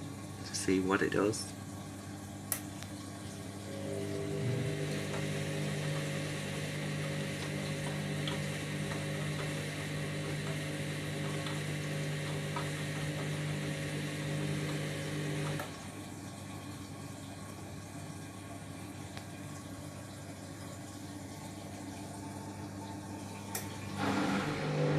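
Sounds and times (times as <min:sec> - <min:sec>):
drain pump humming: 0:00.0 - 0:24.9
water draining: 0:00.0 - 0:24.9.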